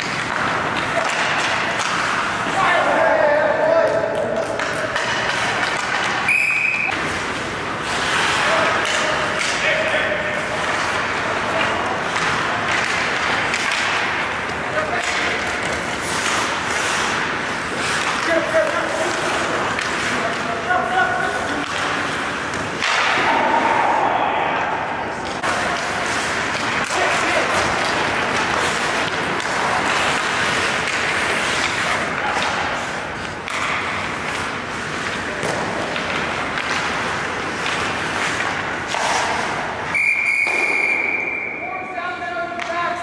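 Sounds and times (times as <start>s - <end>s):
sticks and pucks hitting boards: 0.0s - 43.0s
skate blades scraping ice: 4.2s - 23.7s, 25.2s - 41.1s.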